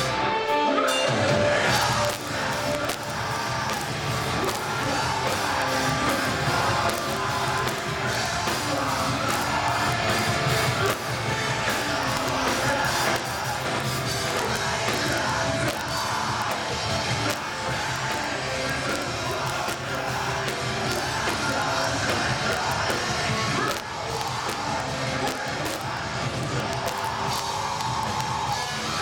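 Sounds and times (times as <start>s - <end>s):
rock band playing live: 0.0s - 29.0s
drums hitting: 1.2s - 28.6s.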